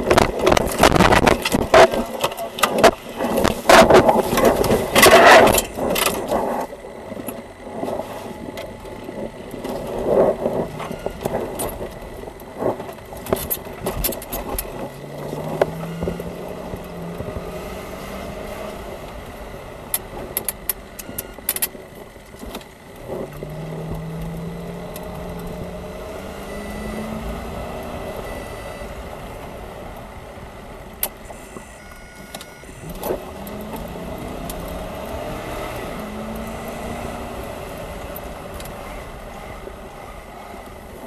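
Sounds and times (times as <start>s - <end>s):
sharp clicks and rattles: 0.0s - 17.5s, 19.1s - 26.2s, 30.8s - 39.2s
car engine accelerating: 0.0s - 41.0s.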